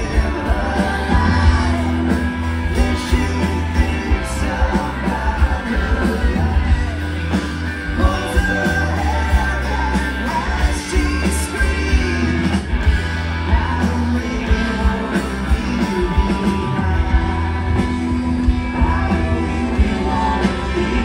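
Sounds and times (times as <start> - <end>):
person singing: 0.0 - 12.7, 13.4 - 21.0
electric guitar: 0.0 - 21.0
live rock band playing: 0.0 - 21.0.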